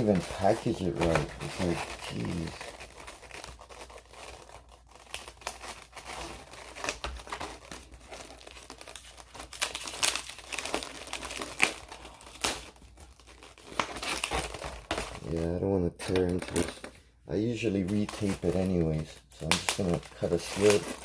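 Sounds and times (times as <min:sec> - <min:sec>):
packaging crinkling: 0:00.0 - 0:21.0.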